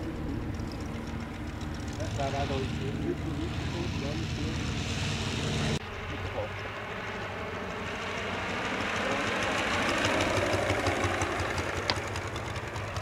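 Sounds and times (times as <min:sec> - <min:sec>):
model aircraft engine buzzing: 0:00.0 - 0:13.0.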